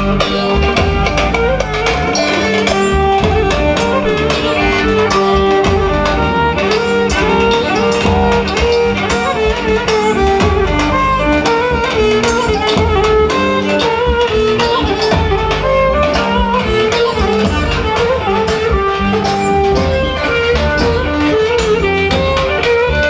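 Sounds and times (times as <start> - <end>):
winding melody line: 0.0 - 22.8
dance music: 0.0 - 23.0
steady drum beat: 0.0 - 23.0.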